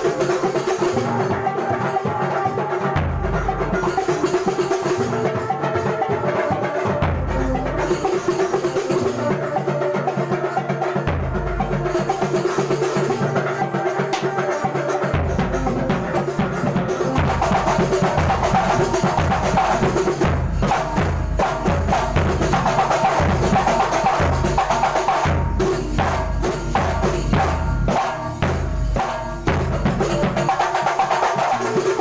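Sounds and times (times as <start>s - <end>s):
hand drum percussion: 0.0s - 32.0s.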